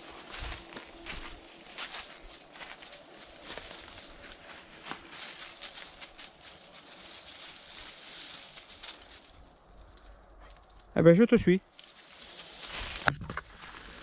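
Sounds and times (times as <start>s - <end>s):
footsteps through vegetation: 0.0s - 11.0s, 11.6s - 14.0s.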